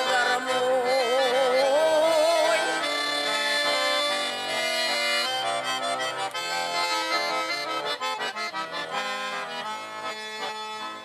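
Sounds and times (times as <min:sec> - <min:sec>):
accordion playing folk tune: 0:00.0 - 0:11.0.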